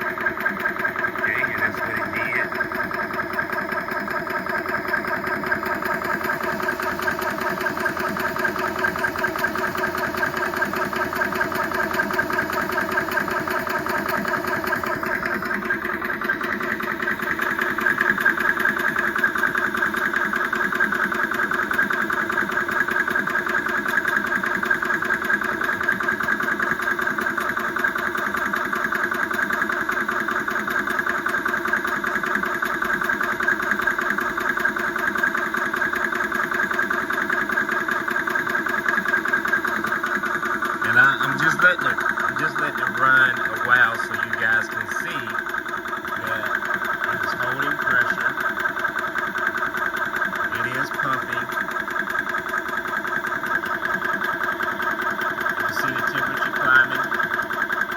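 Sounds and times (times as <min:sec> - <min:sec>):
air compressor pulsing: 0:00.0 - 0:57.9.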